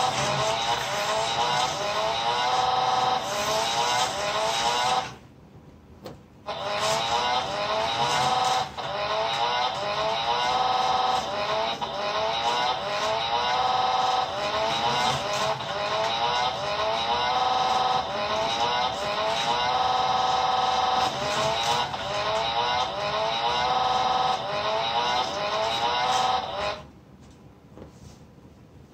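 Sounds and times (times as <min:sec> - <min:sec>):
recorded race car engine revving: 0:00.0 - 0:05.2, 0:06.5 - 0:26.9.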